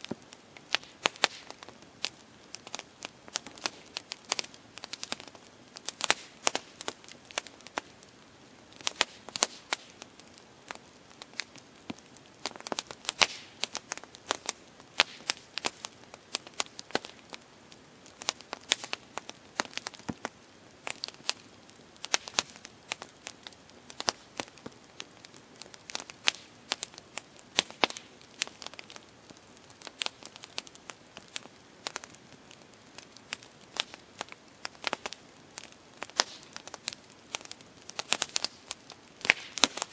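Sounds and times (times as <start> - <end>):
campfire crackling: 0.0 - 39.9
soft steady hiss: 0.0 - 39.9.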